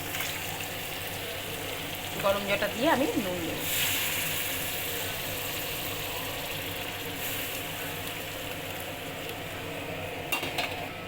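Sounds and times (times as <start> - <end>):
curry simmering hiss: 0.0 - 11.0.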